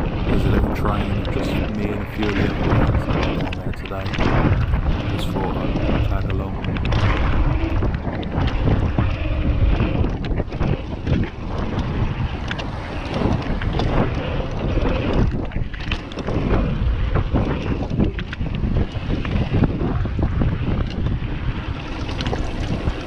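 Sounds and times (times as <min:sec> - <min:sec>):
wind rushing over microphone: 0:00.0 - 0:23.0
bike tyres on loose dirt: 0:04.0 - 0:23.0.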